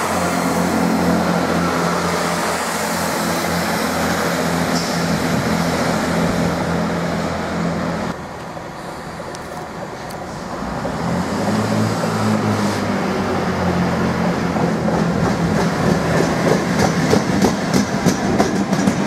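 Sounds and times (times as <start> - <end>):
diesel train engine hum: 0.0 - 19.0
train wheels on rails: 0.0 - 19.0.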